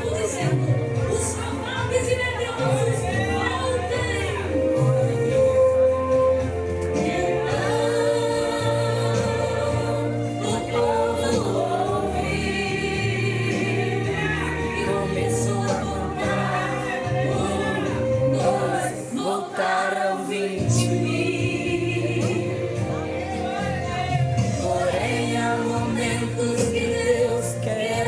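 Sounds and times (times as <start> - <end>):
choir singing over band: 0.0 - 28.0.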